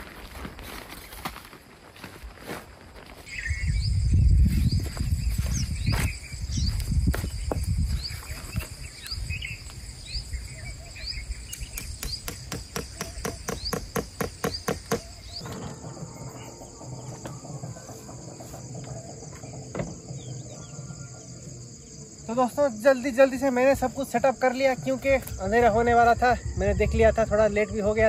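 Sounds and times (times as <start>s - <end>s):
insect chorus: 0.0s - 28.0s
high rising chirp: 3.3s - 28.0s.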